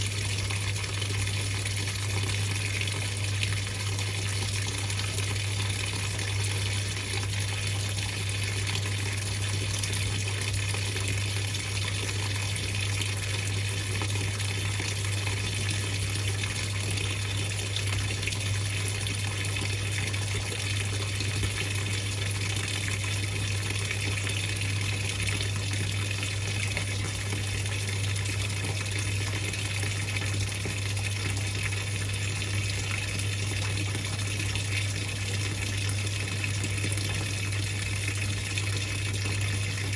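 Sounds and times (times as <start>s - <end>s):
washing machine water rushing: 0.0s - 39.9s.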